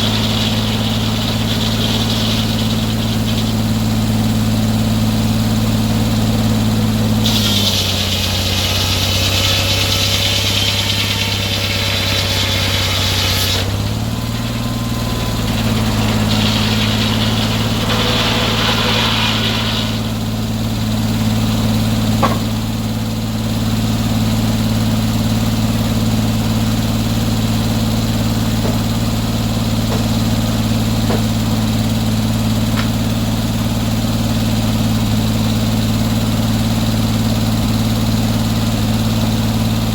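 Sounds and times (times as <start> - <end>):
saw cutting through wood: 0.0 - 39.9
sawmill engine running: 0.0 - 39.9.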